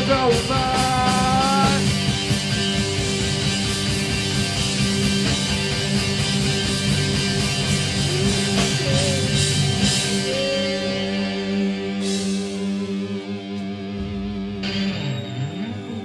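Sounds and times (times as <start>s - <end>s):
rock band playing: 0.0s - 16.0s
sliding guitar notes: 0.0s - 16.0s.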